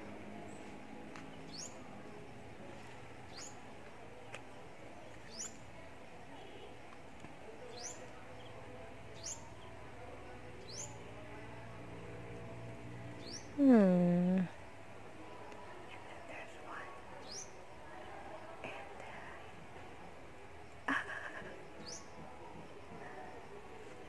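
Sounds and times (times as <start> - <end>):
faint background noise: 0.0 - 24.0.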